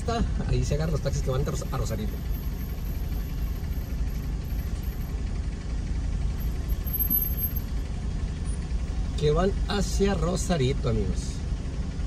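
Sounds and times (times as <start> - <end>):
cars idling in traffic: 0.0 - 12.0.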